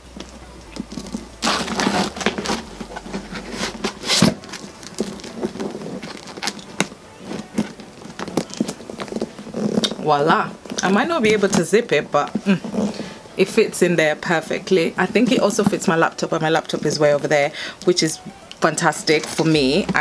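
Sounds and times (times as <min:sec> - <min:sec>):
handbag rustling and crackling: 0:00.1 - 0:20.0.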